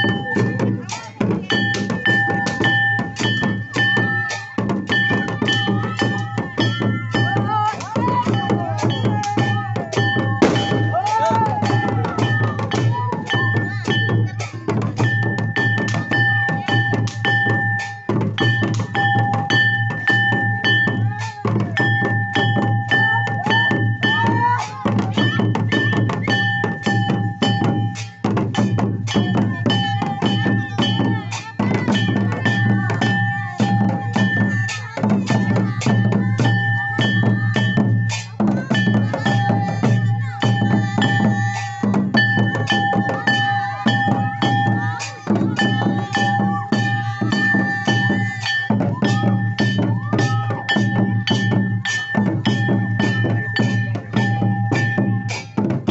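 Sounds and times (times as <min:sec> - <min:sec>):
fast drum rhythm: 0:00.0 - 0:55.9
high melodic line: 0:00.0 - 0:55.9.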